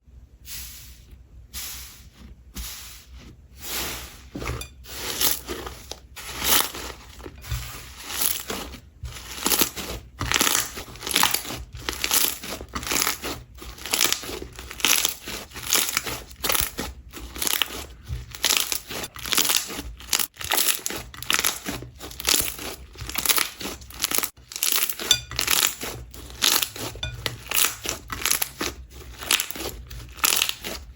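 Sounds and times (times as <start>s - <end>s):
slime squishing: 1.6s - 30.9s.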